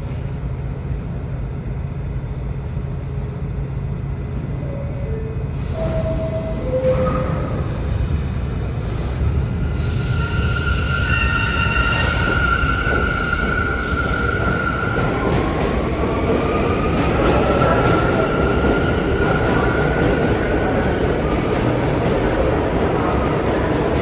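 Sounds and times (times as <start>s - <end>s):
subway train rumbling: 0.0s - 24.0s.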